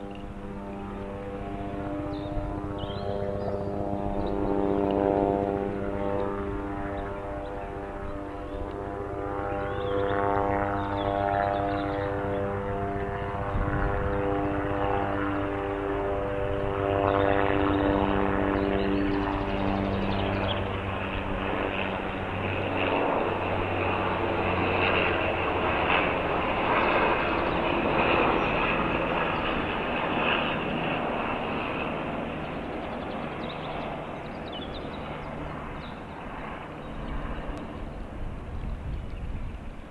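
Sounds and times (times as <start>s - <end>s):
aircraft engine drone flying past: 0.0s - 39.9s.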